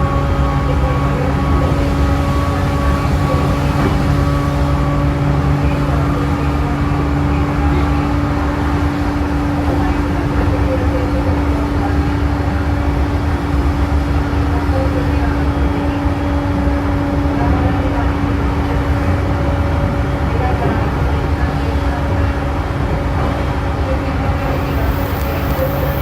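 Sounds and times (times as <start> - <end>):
constant humming tone: 0.0 - 22.8
train wheels rumbling on rail: 0.0 - 26.0.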